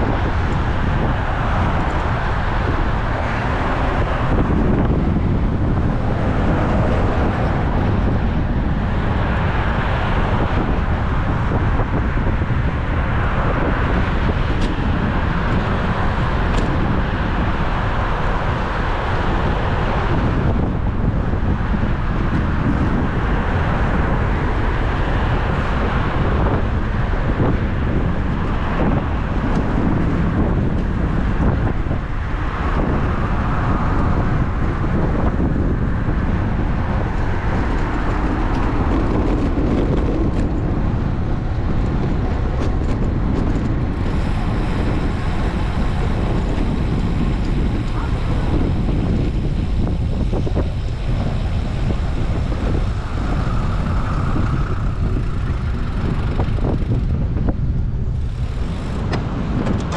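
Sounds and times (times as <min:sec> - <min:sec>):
bicycle tyre noise: 0:00.0 - 0:59.9
traffic noise: 0:00.0 - 0:59.9
wind noise on microphone: 0:00.0 - 0:59.9.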